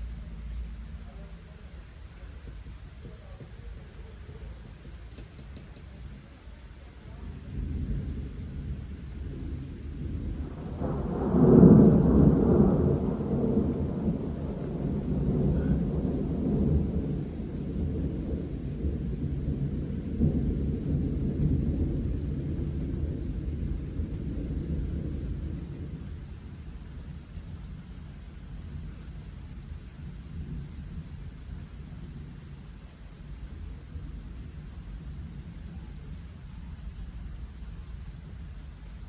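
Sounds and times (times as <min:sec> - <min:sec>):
thunder rumbling: 0:00.0 - 0:39.0.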